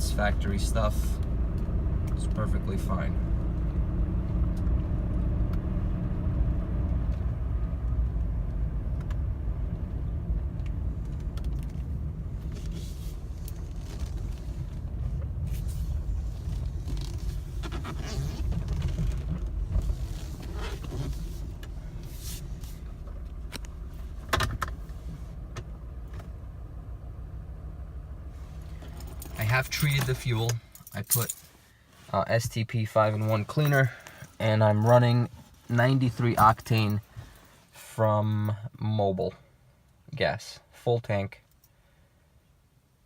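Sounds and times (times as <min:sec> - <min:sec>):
car engine and road noise: 0:00.0 - 0:40.1.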